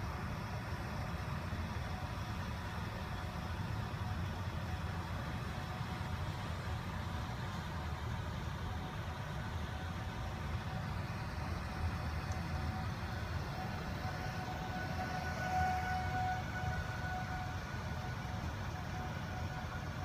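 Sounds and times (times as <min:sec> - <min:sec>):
faint siren: 0:00.0 - 0:20.0
vehicle engines: 0:00.0 - 0:20.0.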